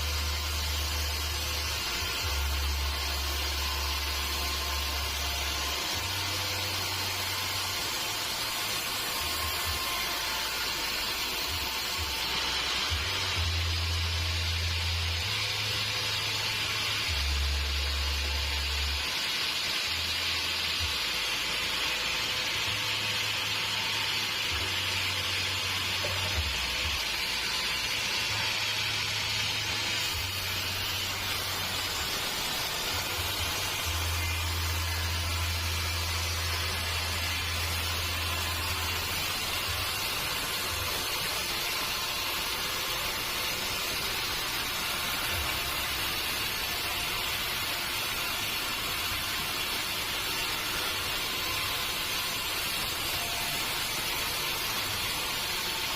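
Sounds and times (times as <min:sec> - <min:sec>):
sawmill machinery hissing: 0:00.0 - 0:55.9.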